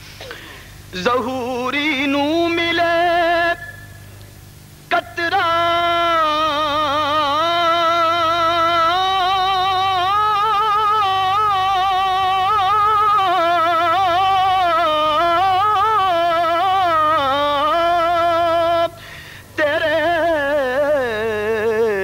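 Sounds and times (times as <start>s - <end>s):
man singing melismatic line: 0.9s - 3.9s, 4.9s - 19.0s, 19.6s - 22.0s.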